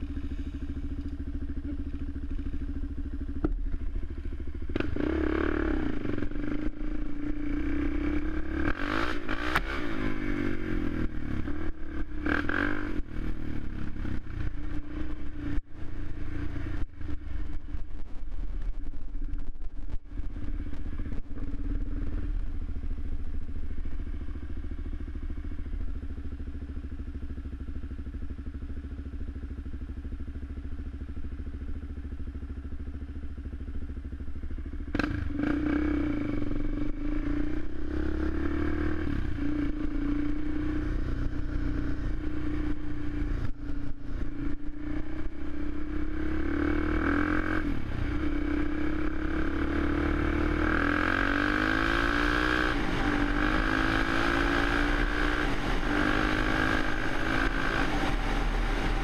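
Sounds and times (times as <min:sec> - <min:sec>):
quad engine running: 0:00.0 - 0:17.8, 0:18.5 - 0:59.0.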